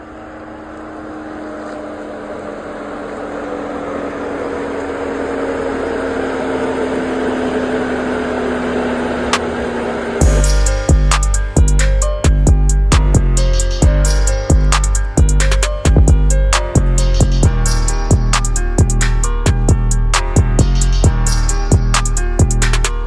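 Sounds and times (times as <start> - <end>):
engine running with low hum: 0.0 - 23.0.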